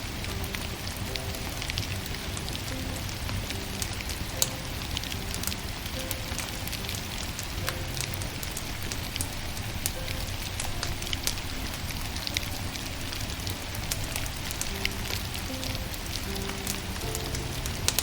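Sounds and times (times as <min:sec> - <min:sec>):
fire hissing softly: 0:00.0 - 0:18.0
firewood crackling and popping: 0:00.0 - 0:18.0.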